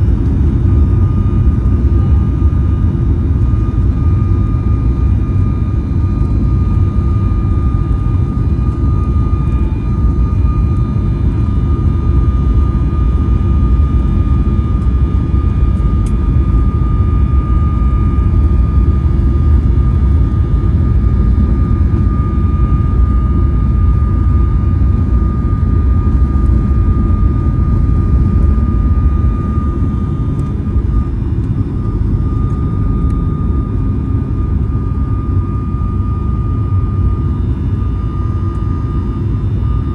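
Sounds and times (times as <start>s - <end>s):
high engine whine: 0.0s - 39.9s
jet engine rumble in cabin: 0.0s - 39.9s.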